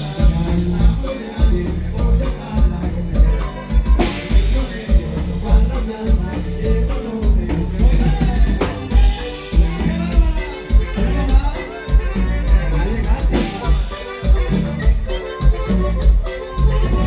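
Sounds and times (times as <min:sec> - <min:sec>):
lead singer singing: 0:00.0 - 0:17.0
live band playing: 0:00.0 - 0:17.0
thumping bass beat: 0:00.0 - 0:17.0.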